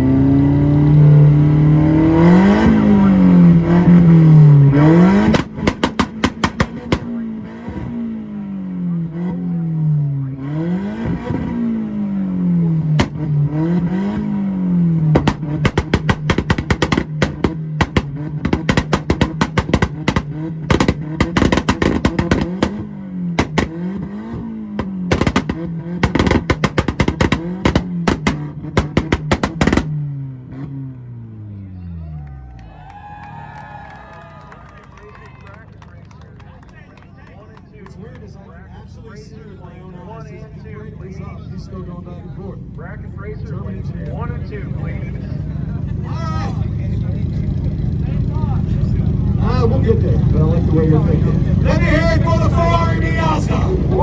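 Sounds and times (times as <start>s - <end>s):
rev limiter pops and bangs: 0.0s - 31.4s, 39.0s - 54.0s
car engine revving: 0.0s - 32.6s, 33.7s - 54.0s.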